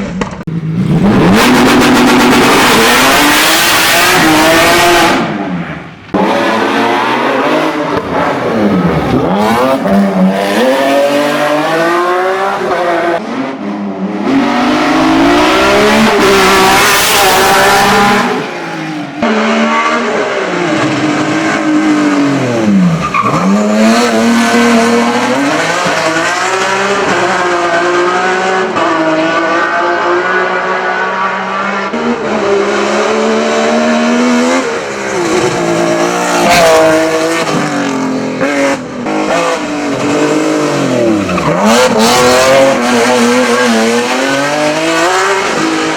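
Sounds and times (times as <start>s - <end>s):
race car engine revving: 0.2s - 45.9s.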